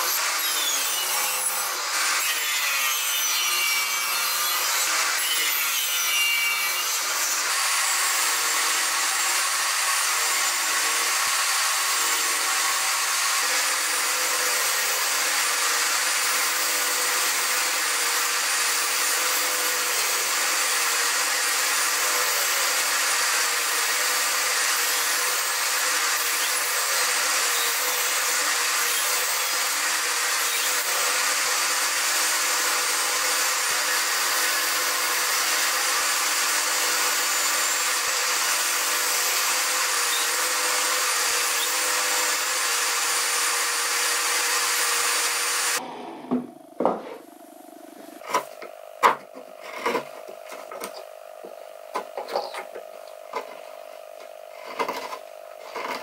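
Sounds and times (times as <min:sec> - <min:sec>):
table saw cutting wood: 0:00.0 - 0:56.0.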